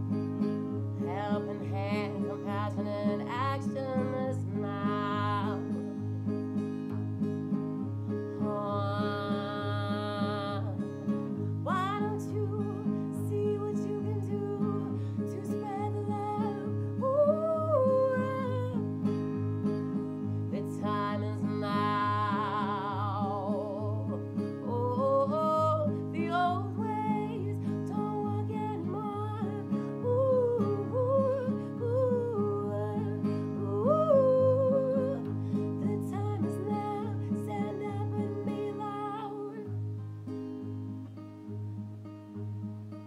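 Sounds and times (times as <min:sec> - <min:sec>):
strummed acoustic guitar: 0:00.0 - 0:43.0.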